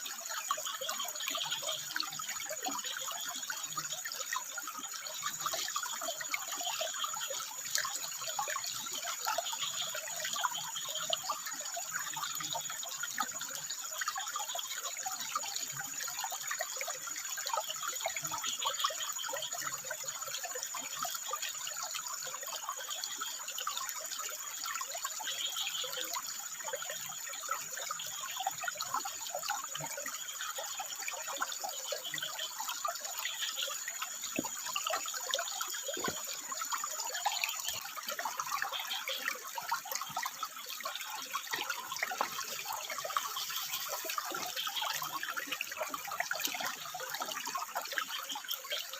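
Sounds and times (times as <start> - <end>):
water trickling over rocks: 0.0 - 48.9.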